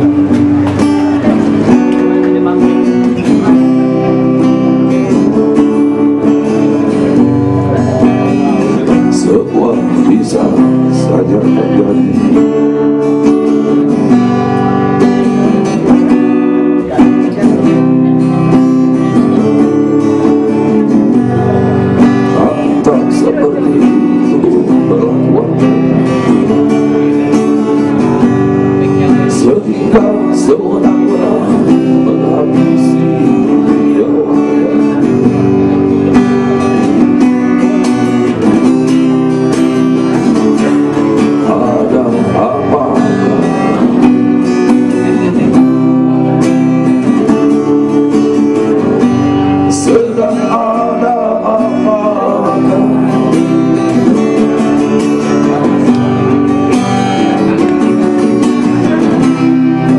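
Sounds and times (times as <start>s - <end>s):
person singing: 0.0s - 14.9s, 16.6s - 59.9s
acoustic guitar strumming: 0.0s - 59.9s.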